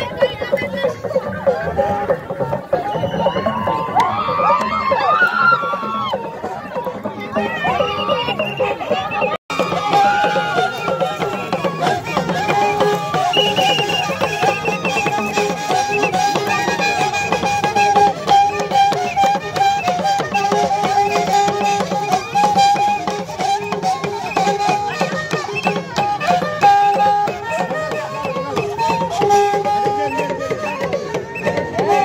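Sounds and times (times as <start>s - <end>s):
fast dense percussion: 0.0s - 32.0s.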